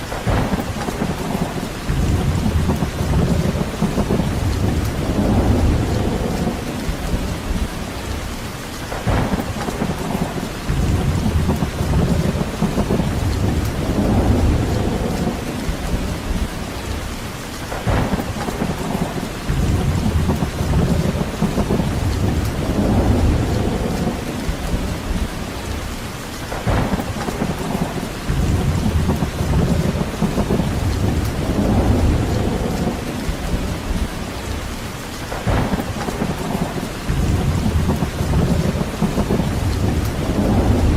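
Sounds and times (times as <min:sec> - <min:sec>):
steady rain: 0:00.0 - 0:40.9
low rumble: 0:01.8 - 0:08.3, 0:09.1 - 0:17.2, 0:17.9 - 0:25.9, 0:26.7 - 0:34.7, 0:35.4 - 0:40.9.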